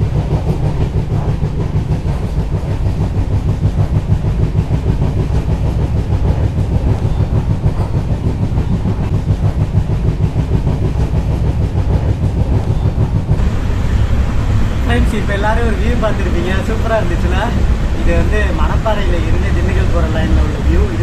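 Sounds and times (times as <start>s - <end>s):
train carriage rumbling on track: 0.0s - 21.0s.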